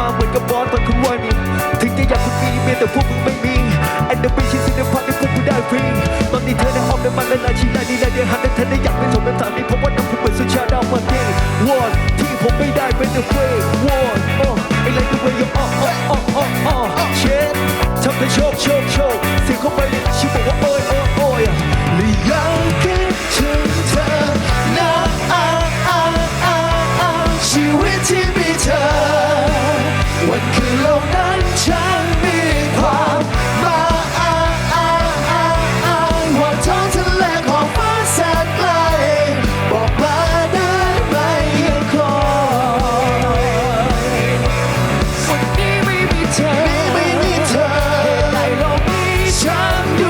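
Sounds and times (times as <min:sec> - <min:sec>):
rock band music: 0:00.0 - 0:50.0.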